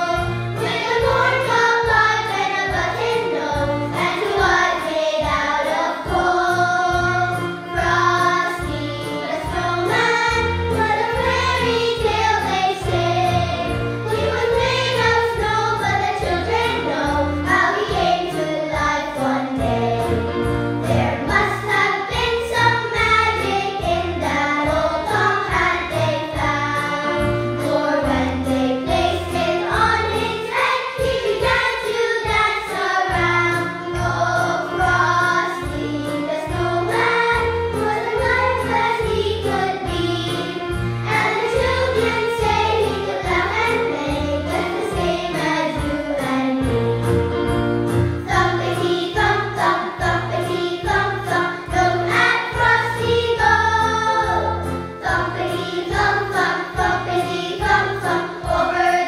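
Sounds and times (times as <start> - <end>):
children's choir singing a carol: 0.0 - 59.0.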